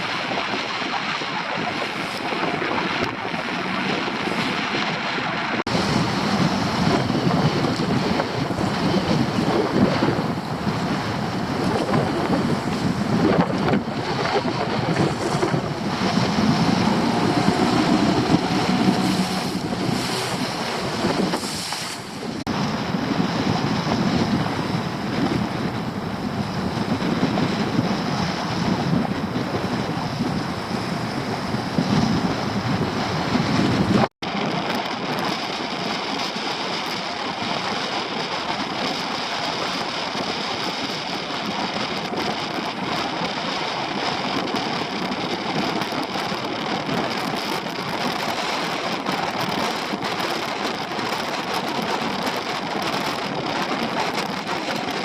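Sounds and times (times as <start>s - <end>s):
sea washing around boat: 0.0s - 55.0s
wind buffeting microphone: 0.0s - 55.0s.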